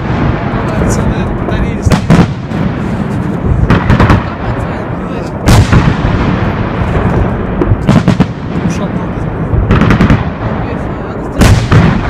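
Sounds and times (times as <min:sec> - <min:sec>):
fireworks bangs: 0:00.0 - 0:12.0
low rumble: 0:00.0 - 0:12.0.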